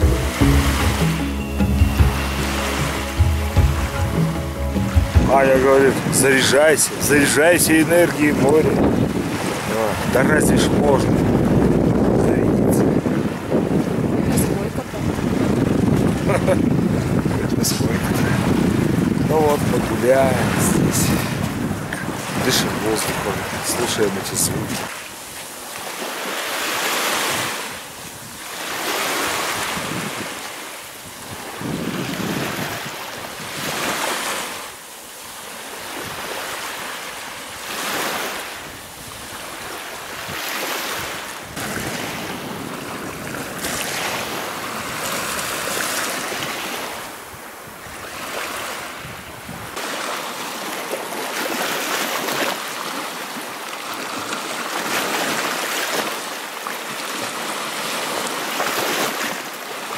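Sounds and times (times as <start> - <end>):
small waves breaking on shore: 2.2 - 59.9.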